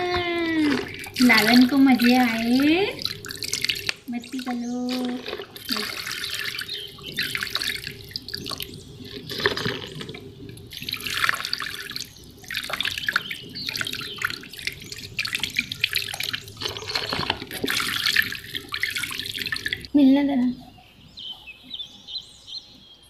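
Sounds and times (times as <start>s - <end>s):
shower water splashing into tub: 0.0s - 20.0s.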